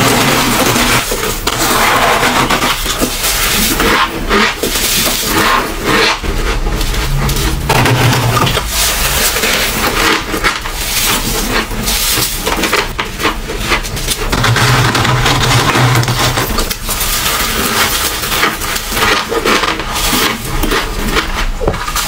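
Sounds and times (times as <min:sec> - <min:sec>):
crunching of ice and frost: 0:00.0 - 0:22.0.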